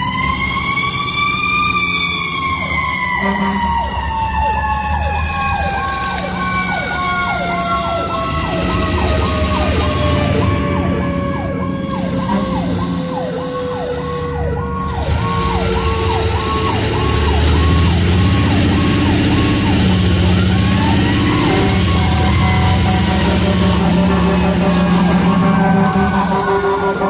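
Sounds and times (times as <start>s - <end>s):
siren sweeping up and down: 0.0s - 27.0s
mechanical siren falling in pitch: 3.5s - 27.0s.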